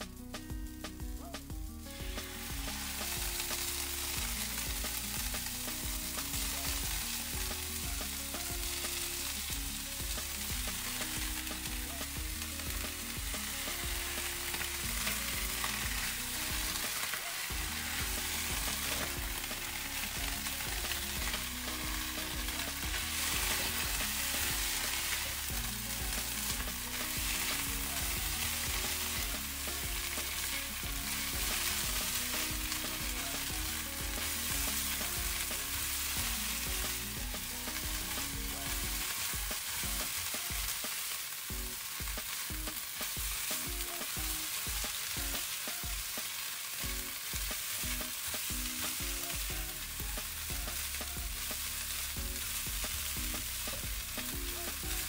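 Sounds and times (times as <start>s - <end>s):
food sizzling in frying pan: 0.0s - 55.0s
spatula tossing food in pan: 1.6s - 55.0s.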